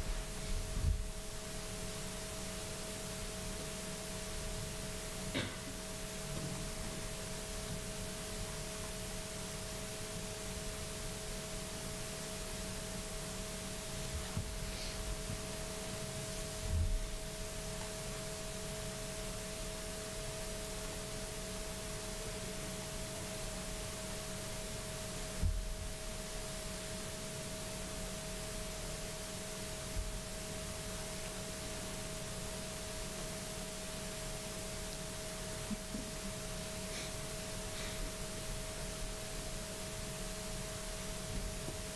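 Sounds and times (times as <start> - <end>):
electrical hum: 0.0 - 41.9
steady hiss: 0.0 - 41.9.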